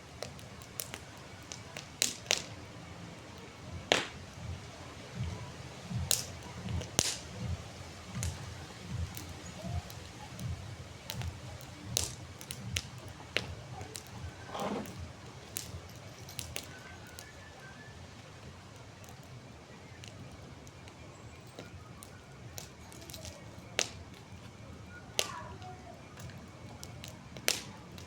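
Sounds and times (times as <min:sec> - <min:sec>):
fire pops and snaps: 0:00.0 - 0:17.4, 0:18.0 - 0:28.0
campfire crackling: 0:00.0 - 0:28.0
low rumble of flames: 0:00.0 - 0:28.0.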